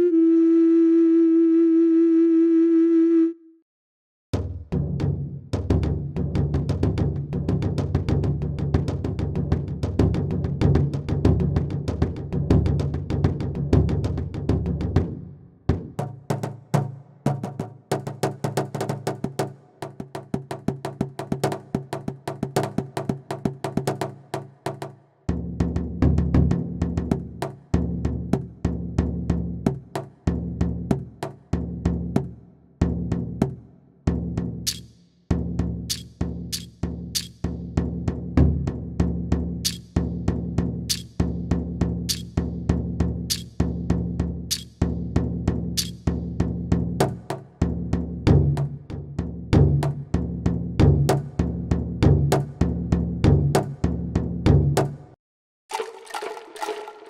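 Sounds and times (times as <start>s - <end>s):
drum and percussion strikes: 4.3s - 55.1s.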